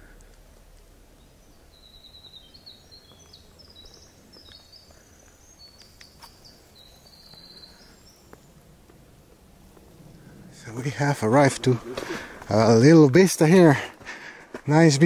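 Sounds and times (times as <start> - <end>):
faint outdoor hush: 0.0 - 15.0
songbird singing: 0.0 - 15.0.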